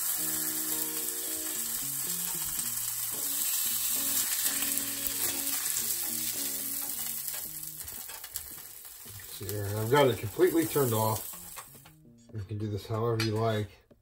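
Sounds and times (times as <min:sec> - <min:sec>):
meat patty sizzling on a griddle: 0:00.0 - 0:11.8
soft background music: 0:00.0 - 0:14.0.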